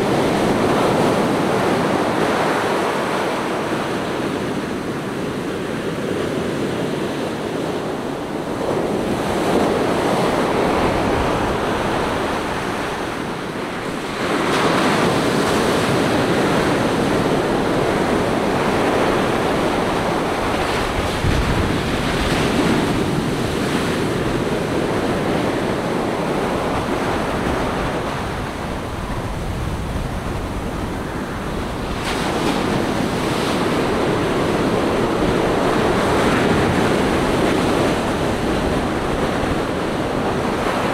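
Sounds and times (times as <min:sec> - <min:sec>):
ocean surf washing up beach: 0:00.0 - 0:40.9.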